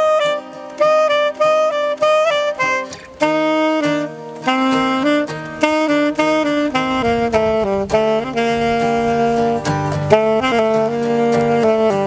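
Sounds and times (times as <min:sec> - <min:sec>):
saxophone playing jazzy melody: 0:00.0 - 0:12.0.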